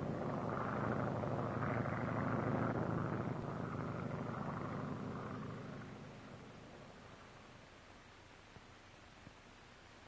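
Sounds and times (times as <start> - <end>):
propeller airplane engine droning: 0.0 - 10.0.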